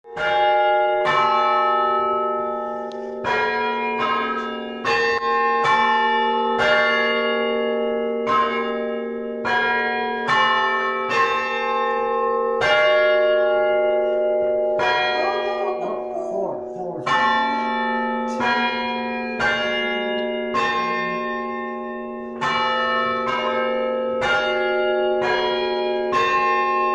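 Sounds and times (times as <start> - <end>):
church bells ringing: 0.0 - 26.9.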